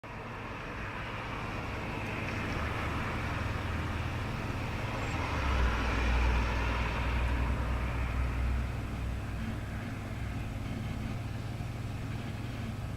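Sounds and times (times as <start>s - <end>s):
vehicle passing rumble: 0.1s - 12.3s.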